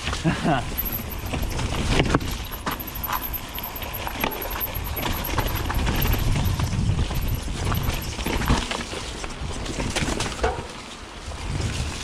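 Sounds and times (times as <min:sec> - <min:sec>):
bike rattling over bumps: 0:00.0 - 0:12.0
bike tyres on dirt: 0:00.0 - 0:12.0
wind rumble on microphone: 0:00.0 - 0:12.0.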